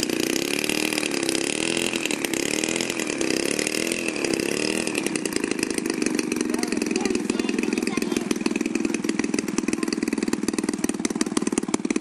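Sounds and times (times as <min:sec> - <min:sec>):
model aircraft engine running: 0:00.0 - 0:12.0.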